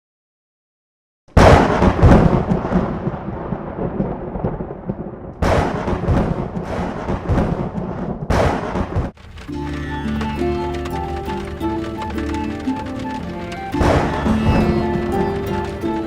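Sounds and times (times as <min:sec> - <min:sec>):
thunderclaps rumbling: 0:01.4 - 0:16.0.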